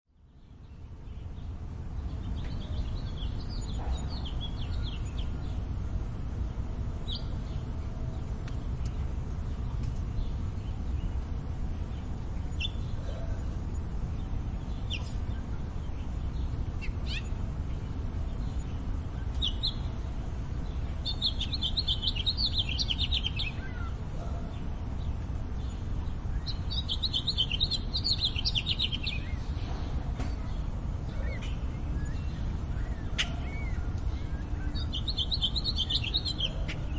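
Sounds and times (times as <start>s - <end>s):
low urban rumble: 0.1s - 36.9s
songbirds chirping: 0.1s - 36.9s.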